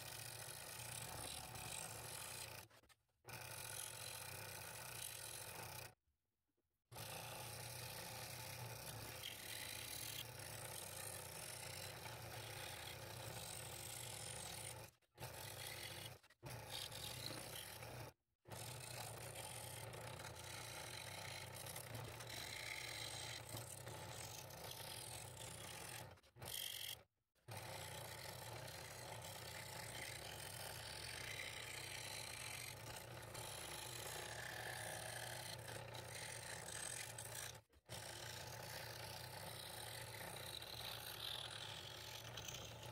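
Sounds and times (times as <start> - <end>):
scroll saw cutting wood: 0.0 - 6.0, 6.9 - 42.9.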